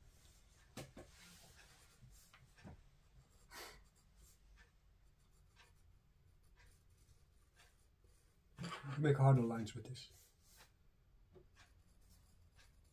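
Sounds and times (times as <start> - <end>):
pencil scratching on paper: 0.2 - 8.4, 10.1 - 10.8, 11.4 - 12.9.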